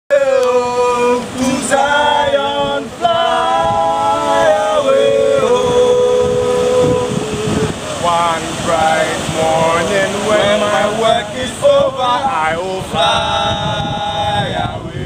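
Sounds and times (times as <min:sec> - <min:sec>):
man singing unaccompanied: 0:00.1 - 0:15.0.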